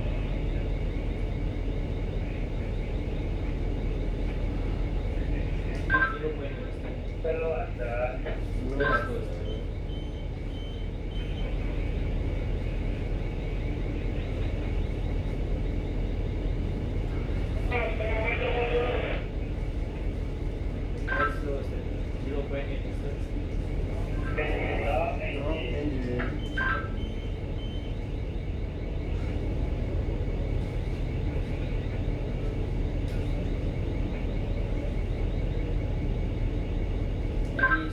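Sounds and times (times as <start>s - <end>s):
ship engines rumbling: 0.0s - 37.9s.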